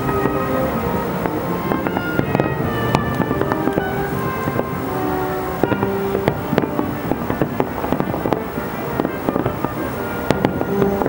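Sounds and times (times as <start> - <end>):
continuous rumble: 0.0 - 11.0
fireworks bangs and crackles: 0.0 - 11.0.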